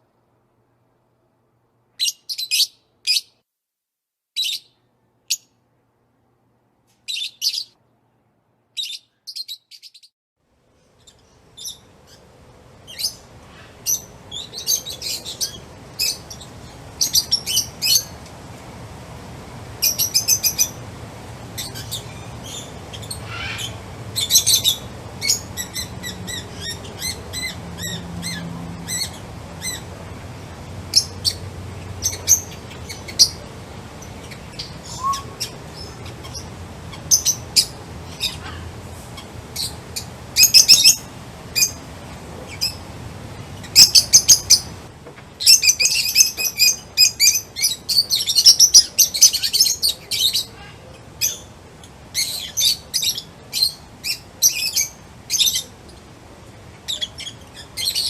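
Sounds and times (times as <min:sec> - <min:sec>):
low background noise: 0:00.0 - 0:03.4, 0:04.5 - 0:09.3, 0:10.4 - 0:58.0
songbirds chirping: 0:07.0 - 0:08.1, 0:08.7 - 0:58.0.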